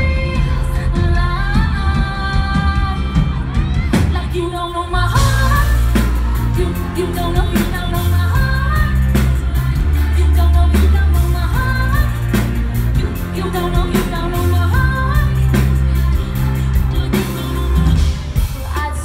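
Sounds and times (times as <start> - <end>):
live pop band playing: 0.0 - 19.0
woman singing lead: 0.0 - 19.0.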